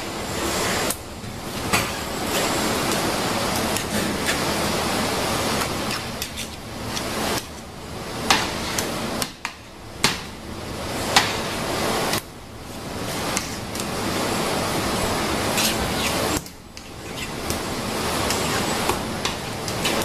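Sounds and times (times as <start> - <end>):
workshop machinery noise: 0.0 - 20.0.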